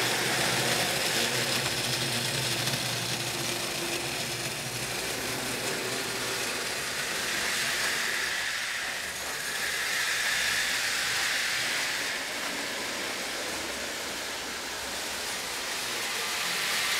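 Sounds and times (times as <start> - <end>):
slot car motors whirring: 0.0 - 16.9.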